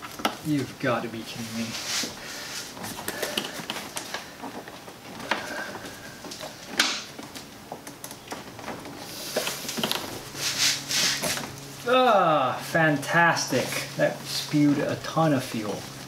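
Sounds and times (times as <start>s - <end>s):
rustling of gloved hands: 0.0s - 16.0s.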